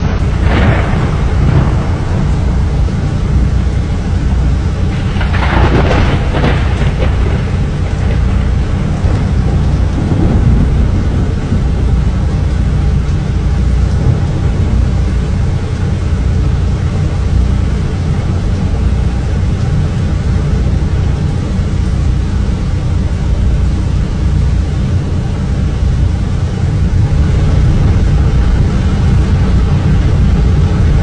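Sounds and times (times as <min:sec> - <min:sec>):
storm wind roaring: 0:00.0 - 0:31.0.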